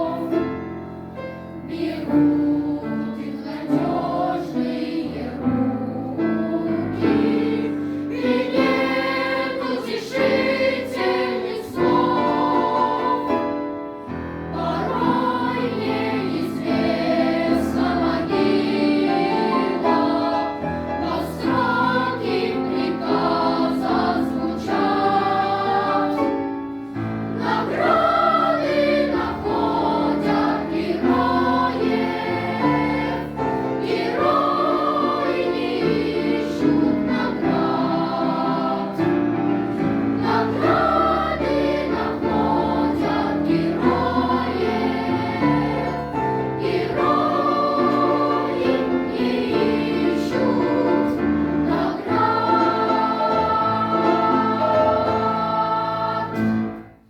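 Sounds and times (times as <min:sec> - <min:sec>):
choir singing: 0:00.0 - 0:57.0
instrumental accompaniment: 0:03.2 - 0:57.0.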